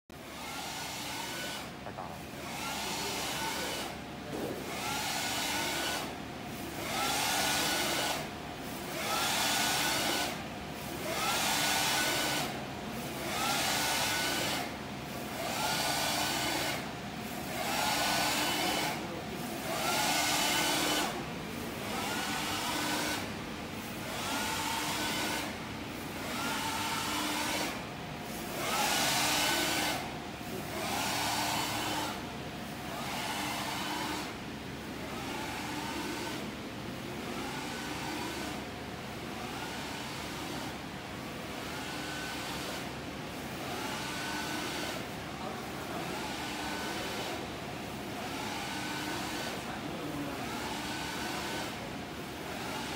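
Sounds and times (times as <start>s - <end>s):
printer carriage whirring: 0.2s - 52.9s.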